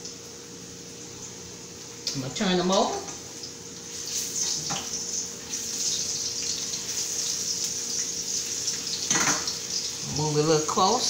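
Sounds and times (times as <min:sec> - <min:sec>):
slices sizzling in hot oil: 0:00.0 - 0:11.0.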